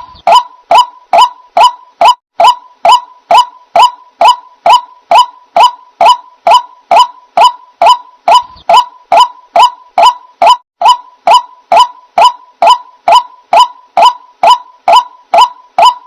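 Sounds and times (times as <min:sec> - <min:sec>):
waterhen calling harsh notes: 0:00.0 - 0:16.0.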